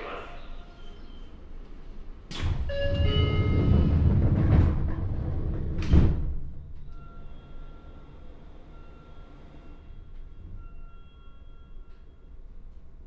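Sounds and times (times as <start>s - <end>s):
train sliding doors closing: 0.1s - 13.0s.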